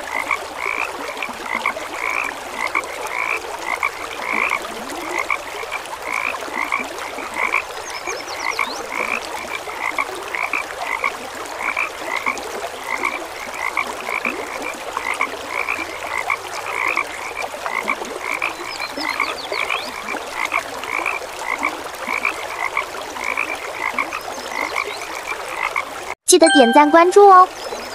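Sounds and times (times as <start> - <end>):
frogs croaking: 0.0 - 26.2.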